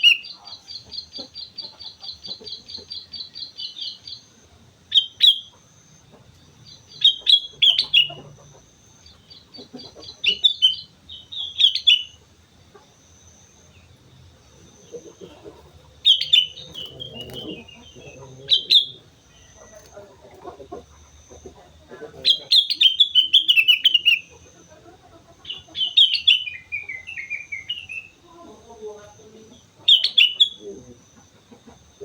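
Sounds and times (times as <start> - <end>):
bird call phrases: 0.0 - 32.0.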